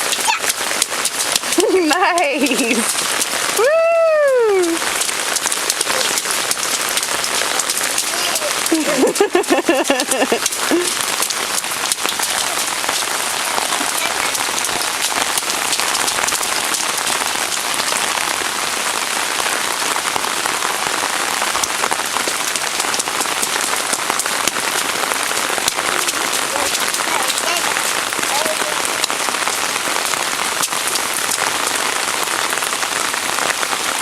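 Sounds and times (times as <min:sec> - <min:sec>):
close raindrops ticking: 0:00.0 - 0:34.0
heavy rain pouring: 0:00.0 - 0:34.0.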